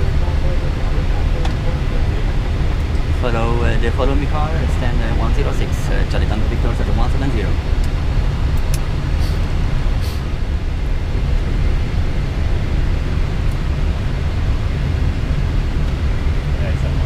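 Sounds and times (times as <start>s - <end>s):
airliner engines idling: 0.0s - 17.0s.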